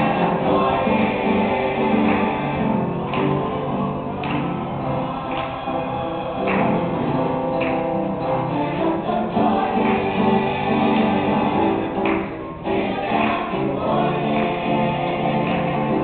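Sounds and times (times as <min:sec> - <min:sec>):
choir singing gospel: 0:00.0 - 0:16.0.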